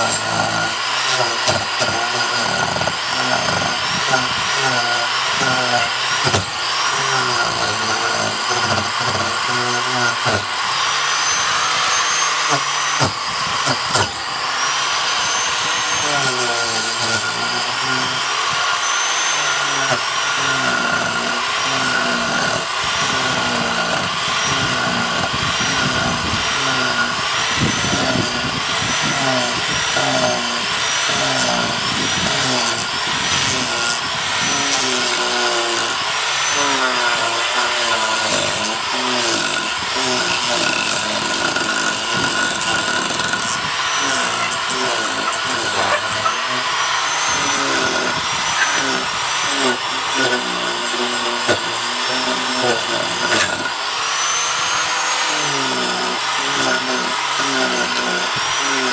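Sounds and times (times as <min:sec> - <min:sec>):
power tool whining into wood: 0:00.0 - 0:58.9.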